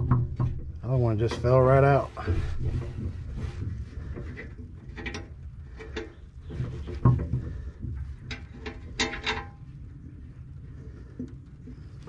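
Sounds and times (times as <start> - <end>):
metal clanks and knocks: 0.0 - 10.2.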